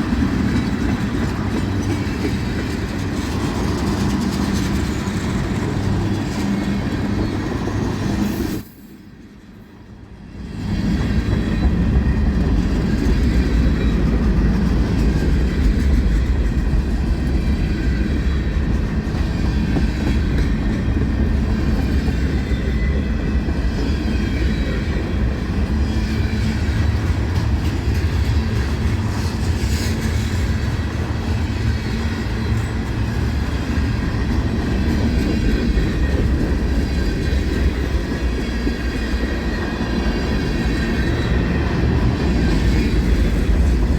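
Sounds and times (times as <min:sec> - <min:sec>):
wheels clickety-clack: 0:00.0 - 0:08.4, 0:10.6 - 0:43.9
train rumbling on rails: 0:00.0 - 0:43.9.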